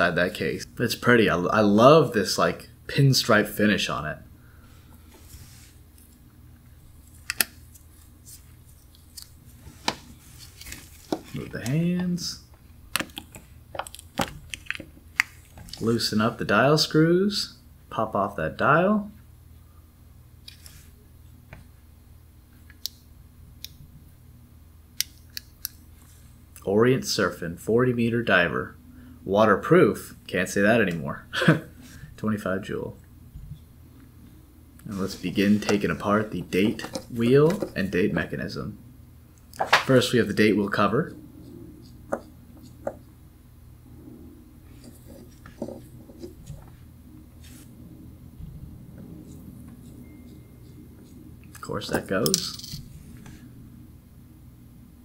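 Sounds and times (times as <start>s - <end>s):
faint room hum: 0.0s - 55.0s.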